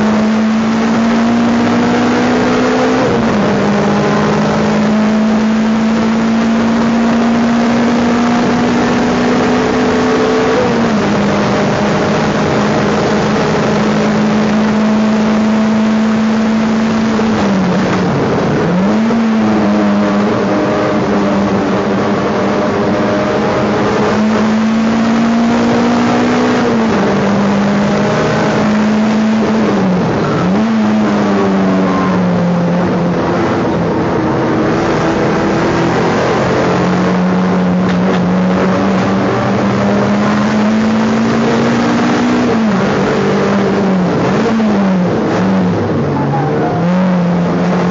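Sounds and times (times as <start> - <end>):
race car engine: 0.0 - 47.9
road and wind noise: 0.0 - 47.9.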